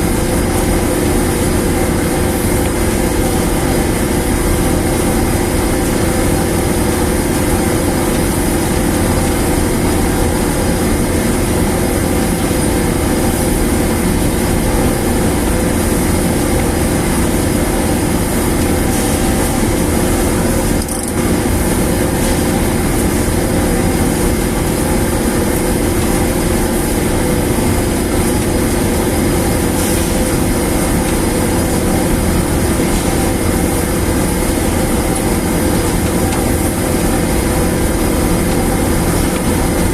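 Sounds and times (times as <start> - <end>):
dryer machine drone: 0.0 - 39.9.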